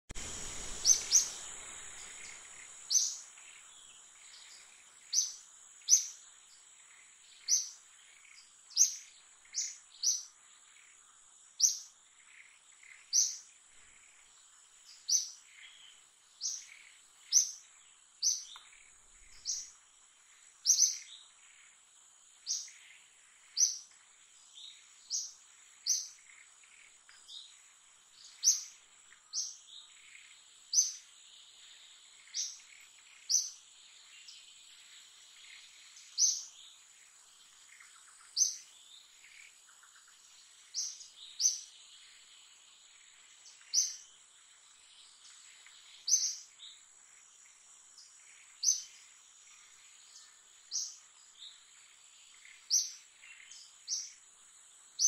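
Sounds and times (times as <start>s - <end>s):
bird chirping: 0.1s - 55.0s
faint high whine: 0.1s - 55.0s.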